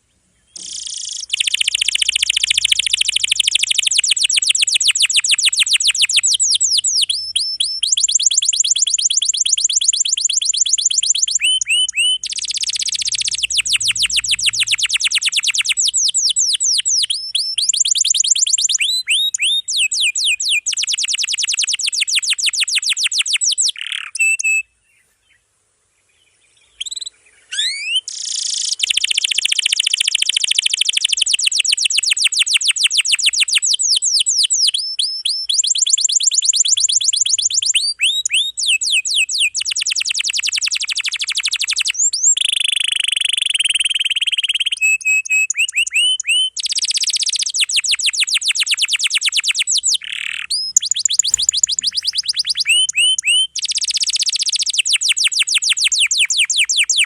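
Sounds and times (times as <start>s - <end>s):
canary singing trills: 0.0s - 25.0s, 26.6s - 57.0s.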